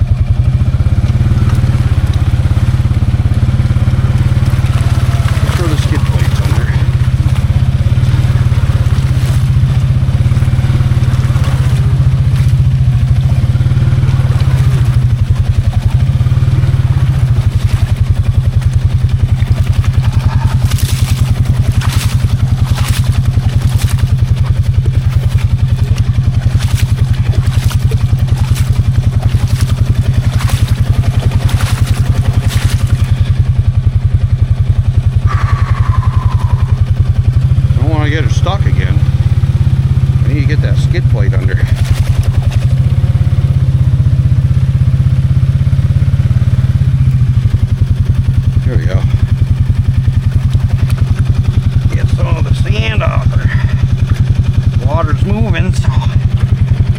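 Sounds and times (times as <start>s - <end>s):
atv engine idling: 0.0s - 56.9s.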